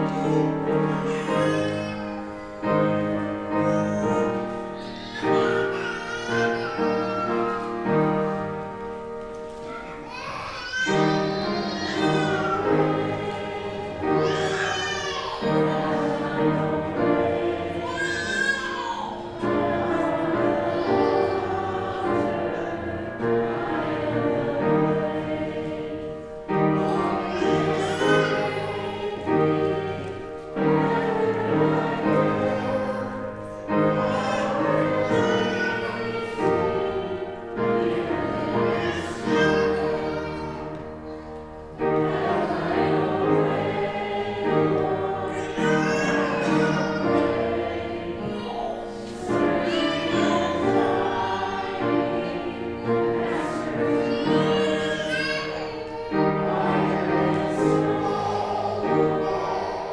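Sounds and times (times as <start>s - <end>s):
congregation singing a hymn: 0.0s - 59.9s
musical accompaniment: 0.0s - 59.9s.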